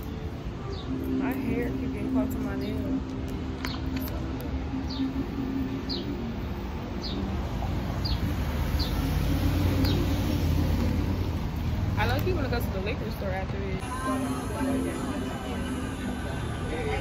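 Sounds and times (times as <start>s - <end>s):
street traffic rumbling: 0.0s - 17.0s.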